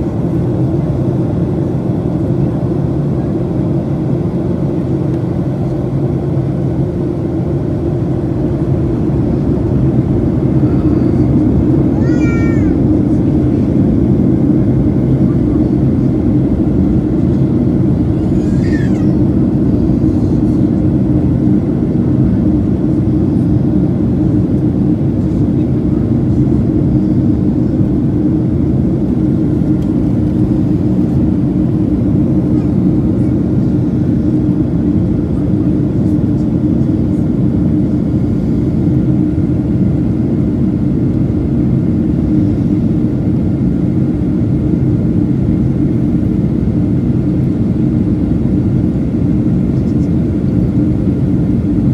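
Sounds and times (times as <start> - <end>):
jet airliner cabin roar: 0.0 - 51.9.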